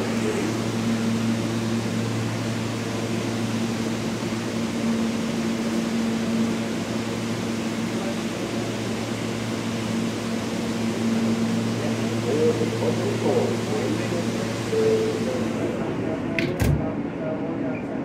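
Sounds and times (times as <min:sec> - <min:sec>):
subway station mechanical drone: 0:00.0 - 0:18.0.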